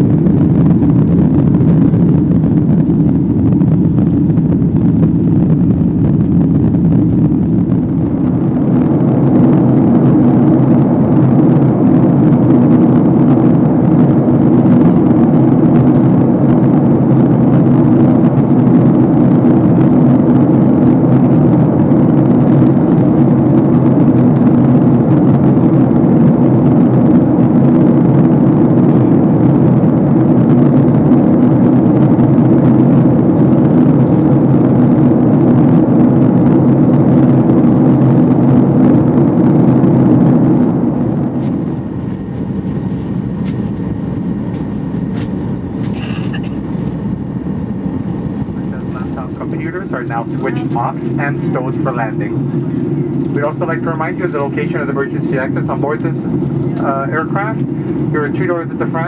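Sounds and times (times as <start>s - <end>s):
faint steady hum: 0.0s - 59.0s
jet cabin engine and airflow drone: 0.0s - 59.0s.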